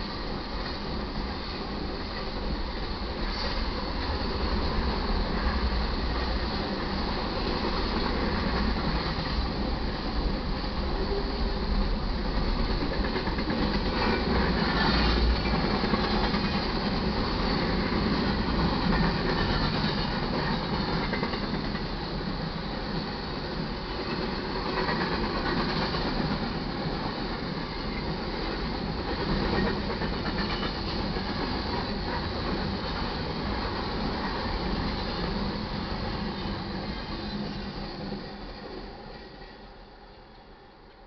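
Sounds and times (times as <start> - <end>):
freight train wheels on rails: 0.0 - 41.0.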